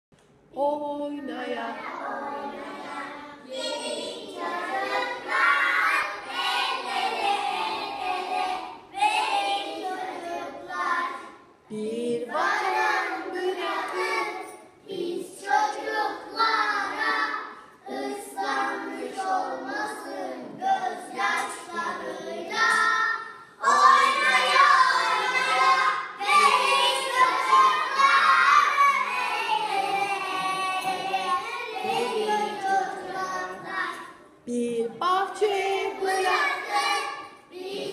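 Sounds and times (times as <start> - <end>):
young children singing in chorus: 1.8 - 34.5, 35.2 - 37.9.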